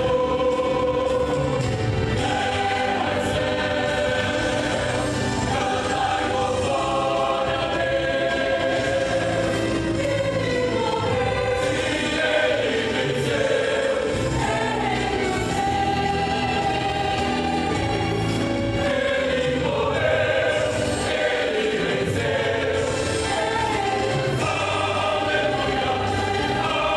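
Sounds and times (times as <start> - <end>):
choir singing a hymn: 0.0 - 26.9.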